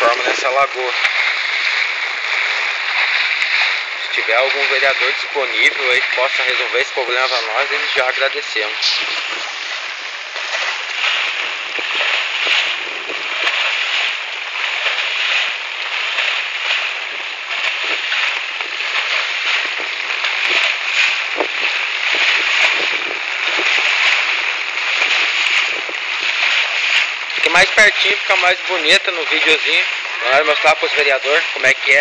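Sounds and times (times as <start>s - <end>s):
floodwater rushing: 0.0s - 32.0s
splashes of people wading: 0.0s - 32.0s.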